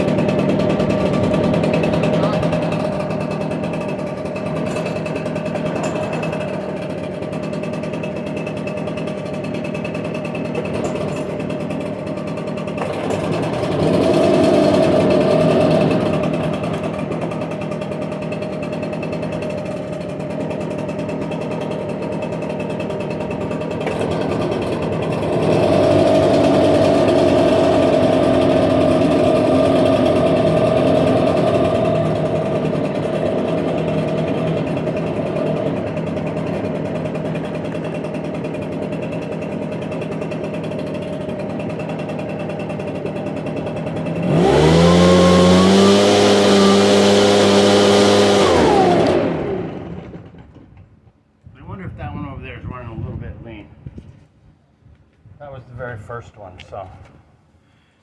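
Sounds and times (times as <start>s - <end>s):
leaf blower engine running: 0.0s - 51.0s.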